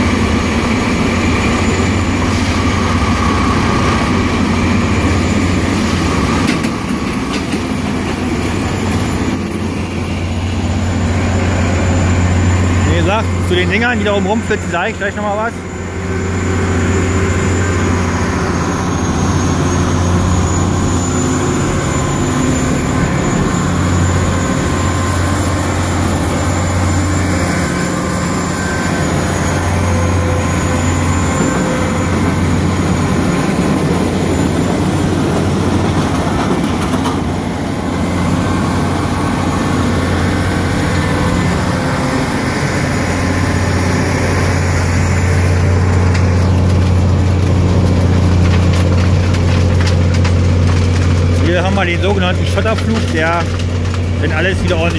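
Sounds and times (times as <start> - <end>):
diesel engine hum: 0.0 - 54.9.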